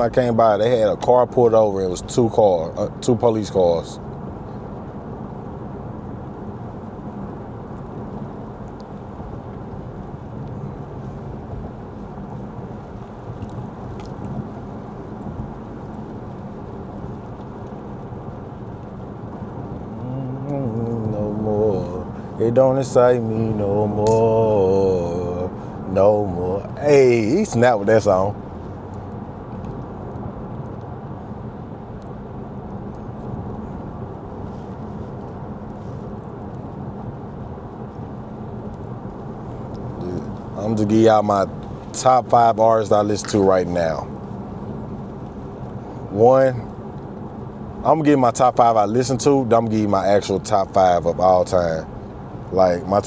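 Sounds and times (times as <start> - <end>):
engine drone: 0.0 - 53.0
raindrops ticking on car: 0.0 - 53.0
tyres rumbling on wet road: 0.0 - 53.0.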